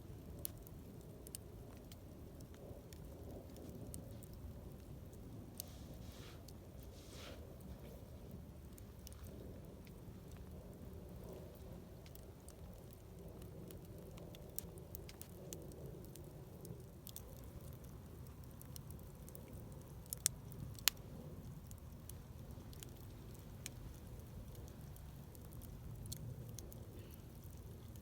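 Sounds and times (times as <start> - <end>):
campfire rumbling: 0.0 - 28.0
wood crackling and popping: 0.0 - 28.0.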